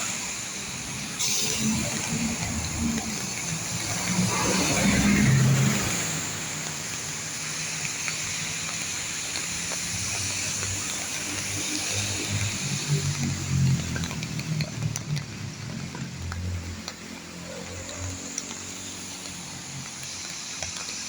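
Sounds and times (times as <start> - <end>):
car passing on wet road: 0.0 - 21.0
rain falling: 0.0 - 21.0.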